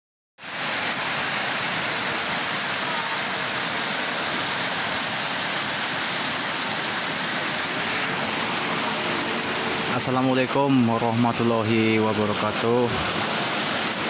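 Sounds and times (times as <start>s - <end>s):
flooded river rushing: 0.4s - 14.0s.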